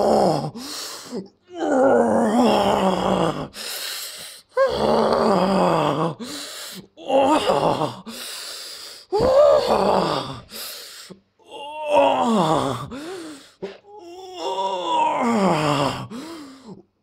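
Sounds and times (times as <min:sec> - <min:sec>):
person groaning and moaning: 0:00.0 - 0:03.6, 0:04.6 - 0:08.2, 0:09.1 - 0:10.6, 0:11.4 - 0:16.9
gasping breaths: 0:00.0 - 0:17.0.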